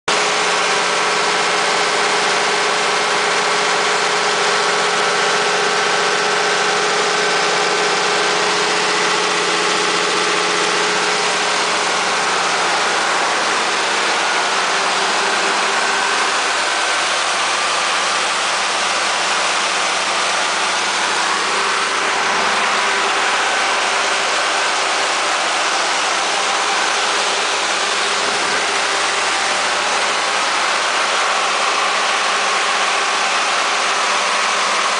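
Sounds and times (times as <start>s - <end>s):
diesel generator engine drone: 0.1s - 34.9s.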